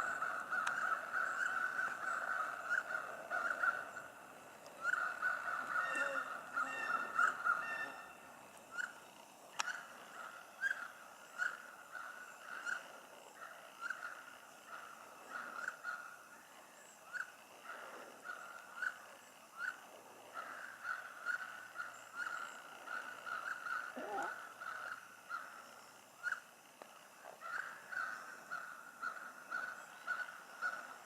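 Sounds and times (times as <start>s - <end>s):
faint bird chorus: 0.0s - 31.0s.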